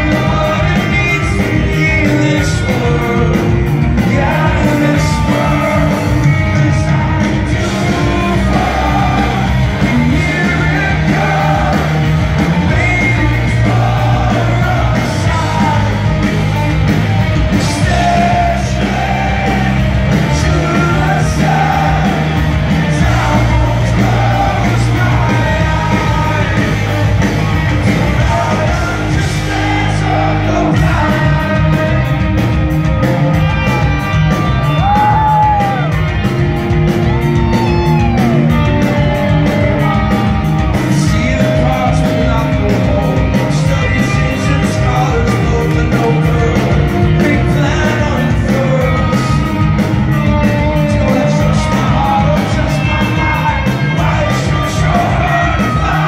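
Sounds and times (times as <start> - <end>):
person singing: 0.0 - 16.7, 17.5 - 27.1, 27.7 - 32.2, 37.4 - 56.0
fast drum beat: 0.0 - 56.0
guitars: 0.0 - 56.0.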